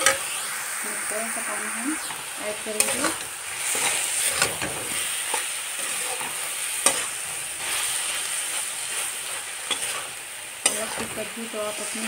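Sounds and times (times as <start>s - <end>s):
vegetables sizzling in a pan: 0.0s - 12.0s
metal spatula scraping pan: 2.1s - 12.0s.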